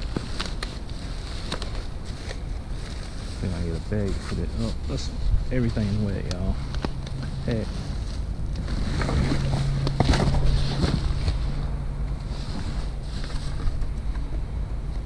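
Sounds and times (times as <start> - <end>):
rustling of trash: 0.0 - 13.9.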